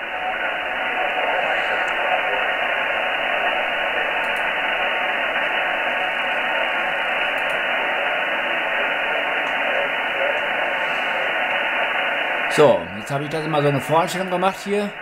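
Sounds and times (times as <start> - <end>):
radio static: 0.0 - 15.0.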